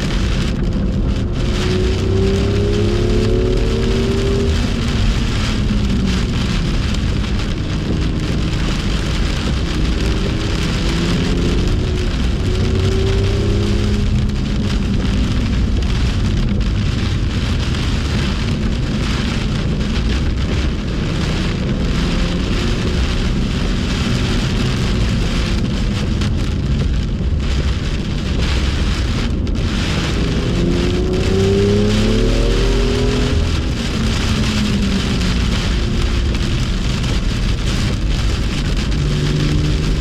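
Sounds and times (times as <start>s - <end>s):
car engine revving under load: 0.0s - 40.0s
rain and tyre spray hiss: 0.0s - 40.0s.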